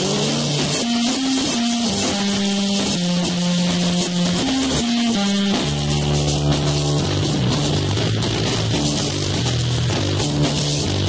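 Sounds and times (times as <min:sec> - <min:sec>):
cymbals crashing: 0:00.0 - 0:10.8
bass guitar: 0:00.0 - 0:11.0
distorted electric guitar: 0:00.0 - 0:11.0.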